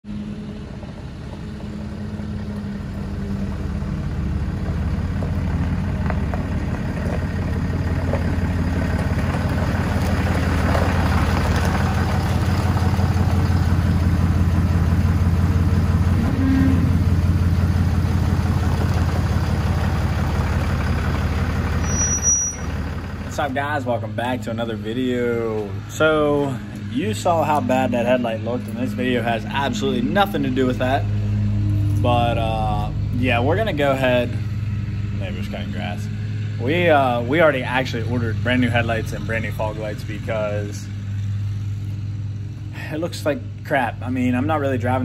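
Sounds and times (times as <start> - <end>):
diesel truck engine idling: 0.0 - 45.0.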